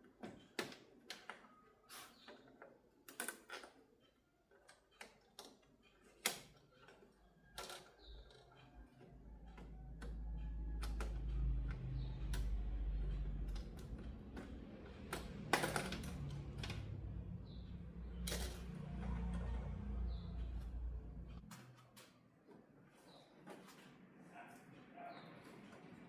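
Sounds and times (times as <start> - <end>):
tools clicking and tapping: 0.0 - 26.0.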